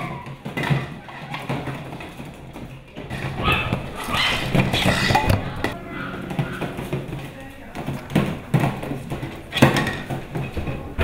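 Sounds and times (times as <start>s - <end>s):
puppies knocking plastic cups: 0.0s - 11.0s
voices: 0.0s - 11.0s.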